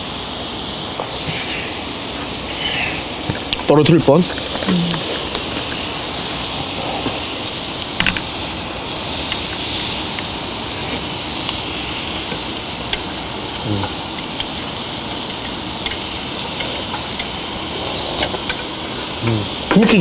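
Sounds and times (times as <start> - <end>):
beef sizzling on a grill: 0.0 - 20.0.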